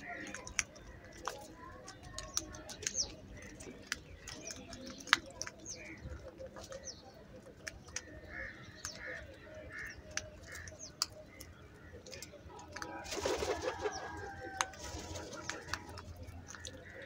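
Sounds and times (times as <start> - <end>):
beaks pecking concrete: 0.0 - 17.0.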